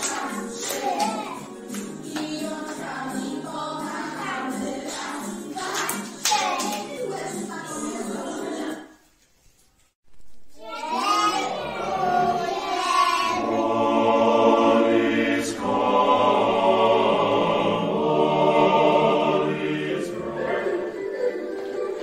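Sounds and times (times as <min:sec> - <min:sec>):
choir singing held chords: 0:00.0 - 0:08.7, 0:10.8 - 0:22.0.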